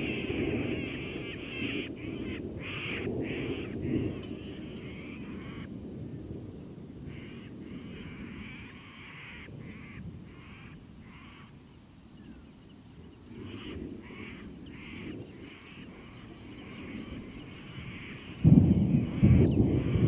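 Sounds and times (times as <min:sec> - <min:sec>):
crows cawing: 0:00.0 - 0:11.6, 0:13.4 - 0:20.0.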